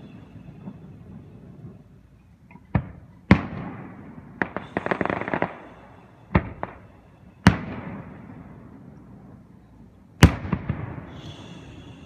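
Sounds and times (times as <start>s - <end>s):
firework shells booming: 0.0s - 9.0s, 10.2s - 12.0s
fireworks crackling: 0.0s - 12.0s.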